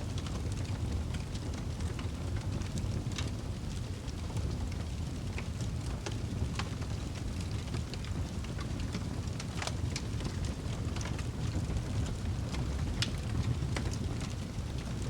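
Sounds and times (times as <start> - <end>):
fire rumbling: 0.0 - 15.0
wood fire crackles and pops: 0.0 - 15.0.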